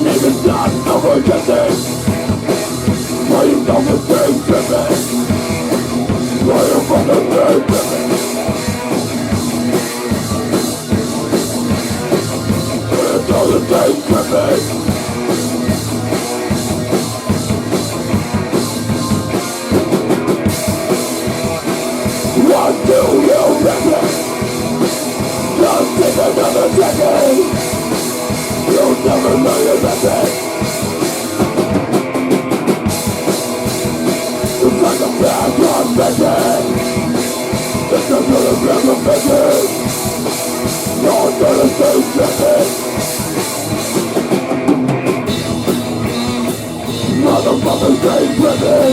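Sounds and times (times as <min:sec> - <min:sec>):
busy drum kit beat: 0:00.0 - 0:48.9
rock band playing: 0:00.0 - 0:48.9.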